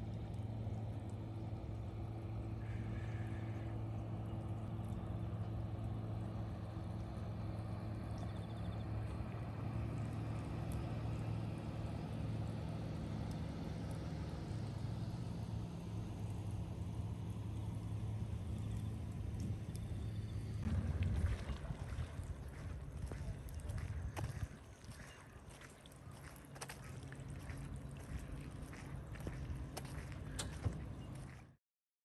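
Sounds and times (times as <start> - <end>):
low engine hum: 0.0 - 31.6.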